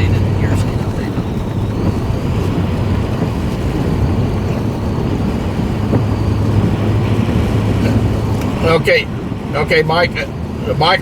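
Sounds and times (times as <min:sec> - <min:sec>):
engine and road hum in car cabin: 0:00.0 - 0:11.0.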